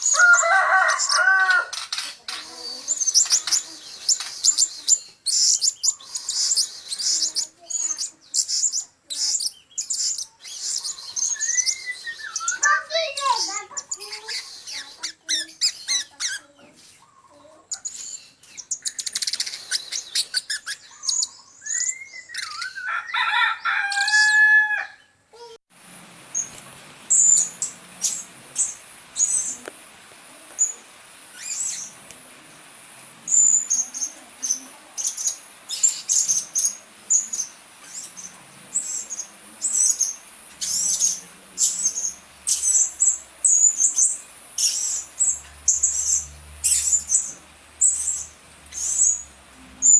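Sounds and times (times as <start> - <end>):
parrots chirping: 0.0 - 16.5, 17.7 - 24.5, 25.9 - 49.9.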